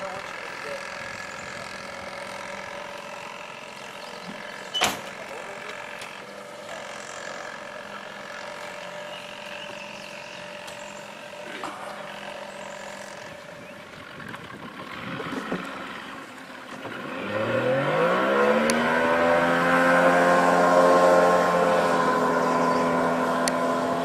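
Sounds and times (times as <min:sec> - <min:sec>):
small outboard motor running: 0:00.0 - 0:24.0.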